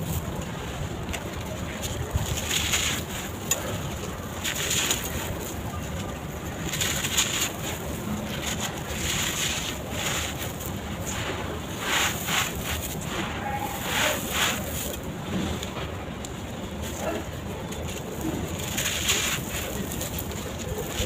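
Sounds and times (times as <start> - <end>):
sand-cement bars crumbling and crunching: 0.0 - 21.0.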